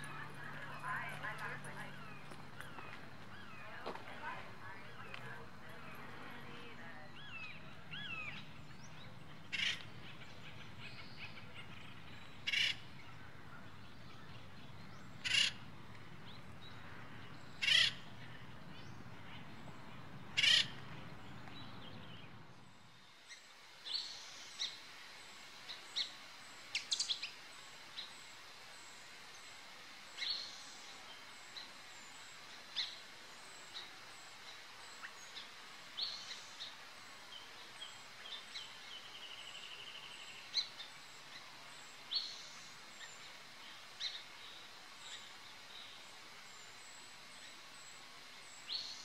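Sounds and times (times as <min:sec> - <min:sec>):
faint outdoor background: 0:00.0 - 0:49.0
small birds chirping: 0:00.0 - 0:49.0.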